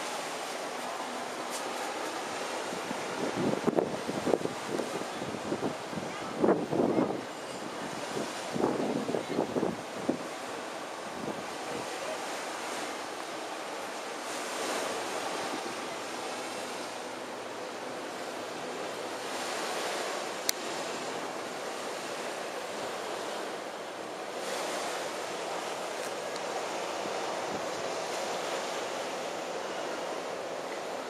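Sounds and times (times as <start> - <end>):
sea surf washing onto shore: 0.0 - 31.0.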